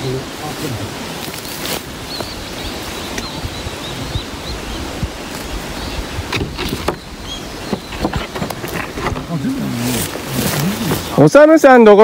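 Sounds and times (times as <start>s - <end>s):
wind buffeting microphone: 0.0s - 11.3s
rustles: 0.0s - 11.4s.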